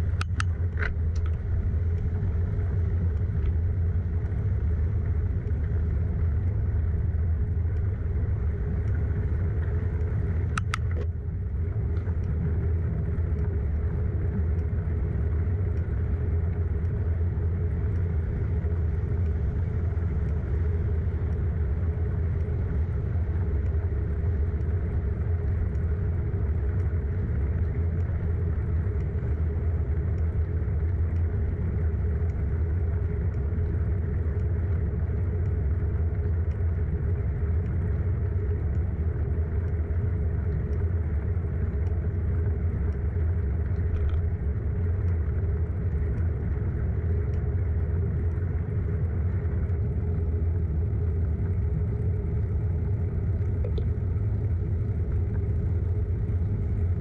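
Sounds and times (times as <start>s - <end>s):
faint ticks: 0.0s - 57.0s.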